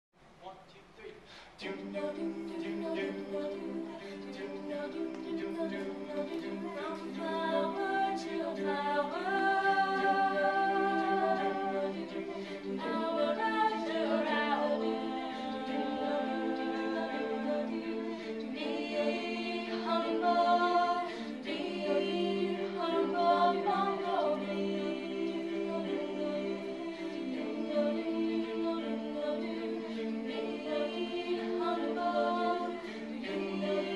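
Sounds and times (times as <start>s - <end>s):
a cappella group singing: 1.1s - 33.9s.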